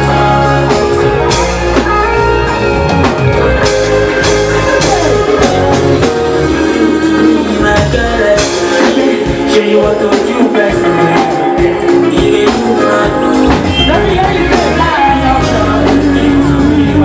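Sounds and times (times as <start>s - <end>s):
loud amplified band music: 0.0s - 17.0s.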